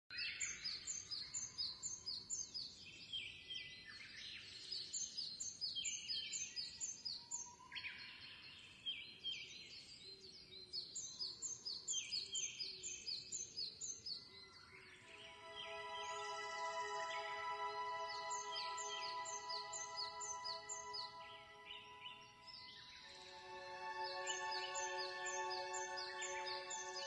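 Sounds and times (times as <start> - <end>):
small birds chirping: 0.1 - 27.0.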